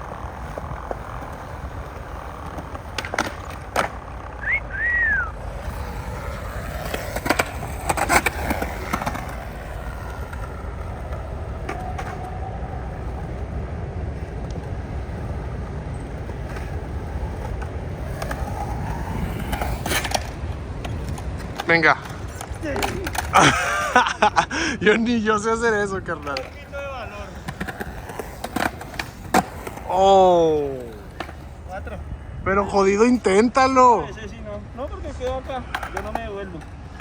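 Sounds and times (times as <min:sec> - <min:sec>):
skateboard clacks: 0:00.0 - 0:32.7, 0:34.4 - 0:37.0
skateboard wheels rolling: 0:00.0 - 0:37.0.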